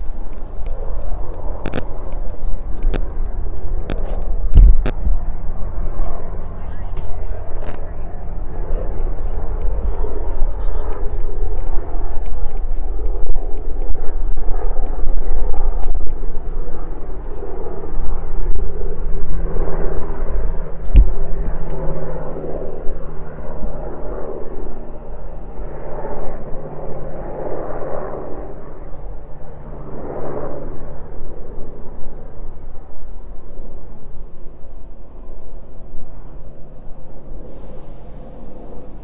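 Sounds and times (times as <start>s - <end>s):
rumbling outdoor noise: 0.0s - 39.0s.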